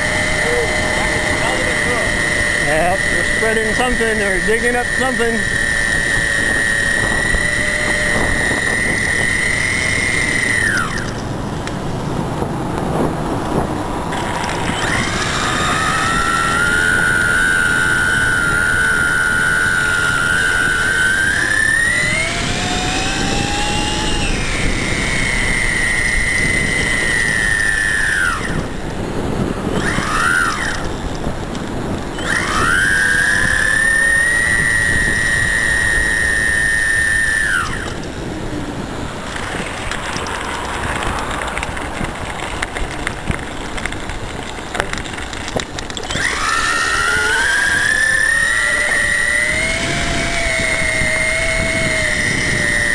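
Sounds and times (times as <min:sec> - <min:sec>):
electric motor whine: 0:00.0 - 0:52.9
wind: 0:00.0 - 0:52.9.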